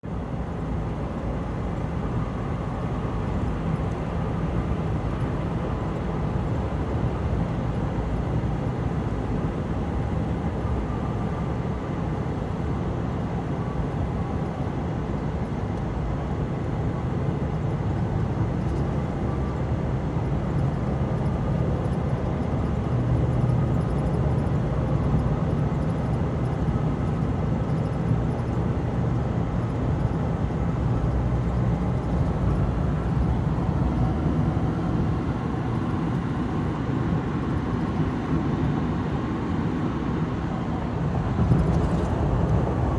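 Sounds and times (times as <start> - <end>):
vehicle engine and road noise: 0.0 - 42.9.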